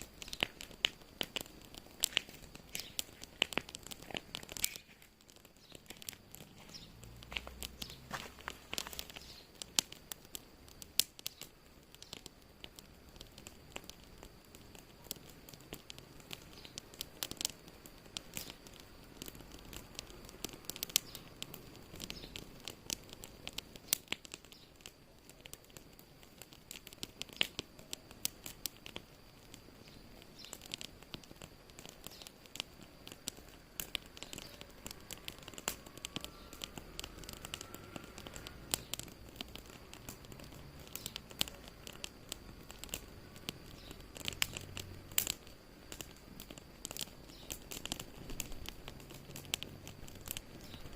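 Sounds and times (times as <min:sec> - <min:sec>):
sharp pops and snaps: 0:00.0 - 0:50.9
wood fire crackling: 0:00.0 - 0:50.9.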